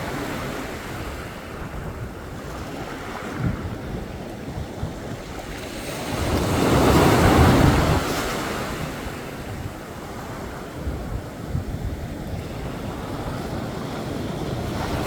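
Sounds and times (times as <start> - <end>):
waves breaking on a beach: 0.0 - 15.0
wind rumbling on microphone: 0.0 - 15.0.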